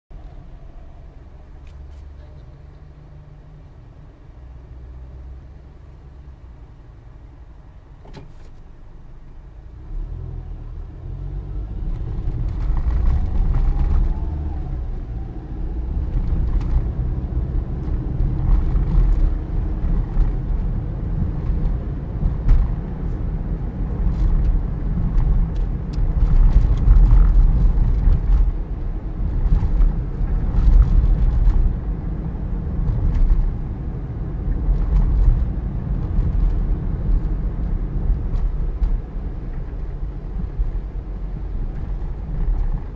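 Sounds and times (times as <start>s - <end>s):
car road rumble from inside: 0.1s - 42.9s.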